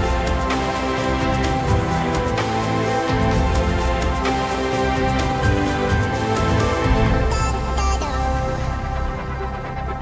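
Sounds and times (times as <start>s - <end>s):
sustained background music with soft beat: 0.0s - 10.0s.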